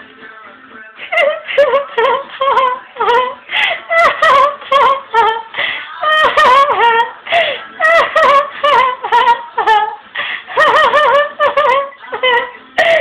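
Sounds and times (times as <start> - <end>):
woman giggling: 1.0 - 13.0.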